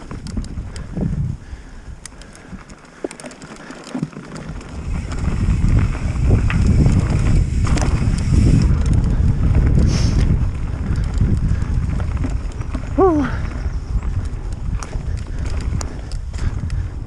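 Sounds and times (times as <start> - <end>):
wind buffeting microphone: 0.0 - 2.8, 4.3 - 17.0
bike clicks and rattles: 0.0 - 17.0
bike tyres rolling on dirt: 0.0 - 17.0.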